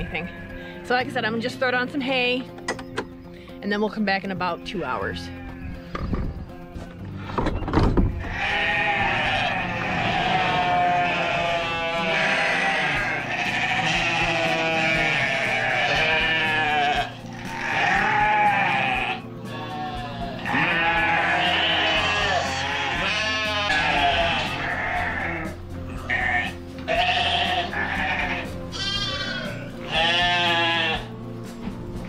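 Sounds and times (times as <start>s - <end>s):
sheep and lambs bleating: 0.0s - 1.4s, 5.0s - 7.4s, 8.1s - 31.2s.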